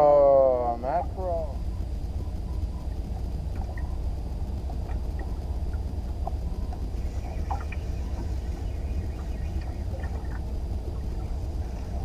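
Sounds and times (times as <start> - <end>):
water around a boat: 0.0 - 12.0
wind on microphone: 1.0 - 12.0.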